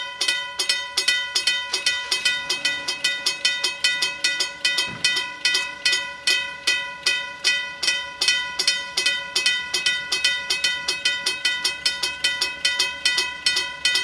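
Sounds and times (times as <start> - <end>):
crossing warning bell ringing: 0.0 - 14.0.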